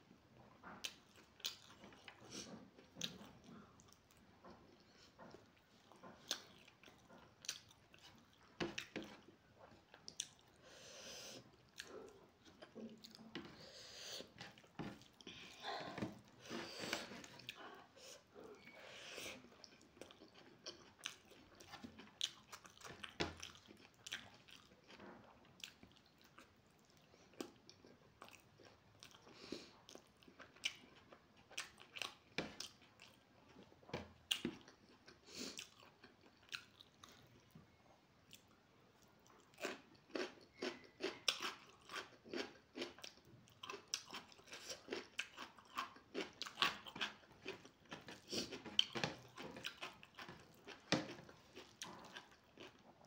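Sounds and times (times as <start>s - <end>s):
person chewing food: 0.4s - 53.0s.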